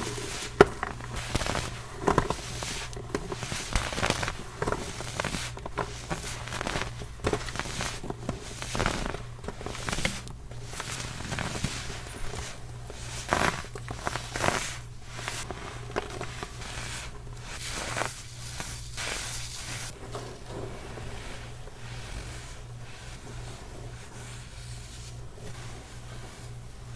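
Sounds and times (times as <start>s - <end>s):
baking soda crunching: 0.0s - 26.9s.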